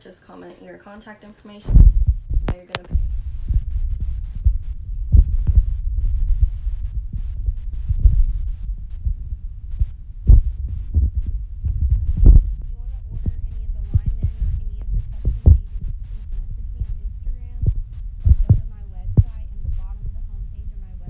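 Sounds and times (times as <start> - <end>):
microphone rubbing rumble: 1.6 - 21.0
thumps and knocks on microphone: 1.7 - 21.0.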